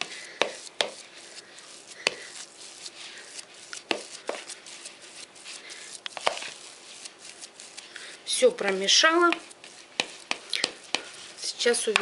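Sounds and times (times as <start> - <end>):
spoon scraping dough in bowl: 0.0 - 12.0.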